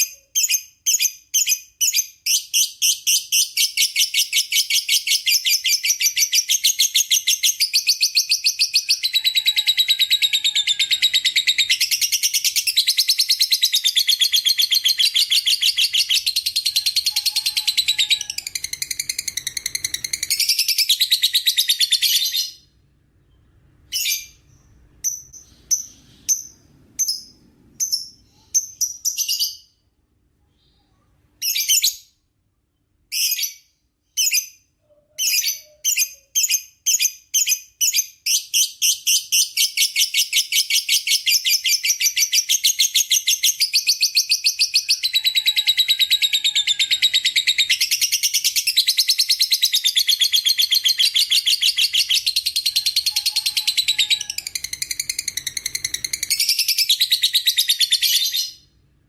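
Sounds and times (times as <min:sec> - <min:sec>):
lovebird chattering and chirping: 0:00.0 - 0:22.6, 0:23.8 - 0:29.7, 0:34.2 - 0:58.7.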